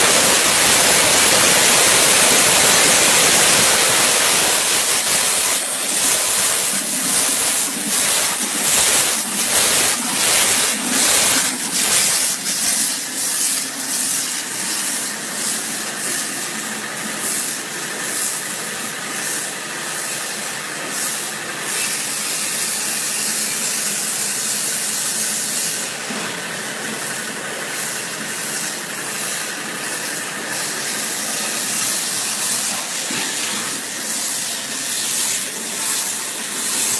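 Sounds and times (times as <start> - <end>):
water jet hissing loudly: 0.0 - 36.9.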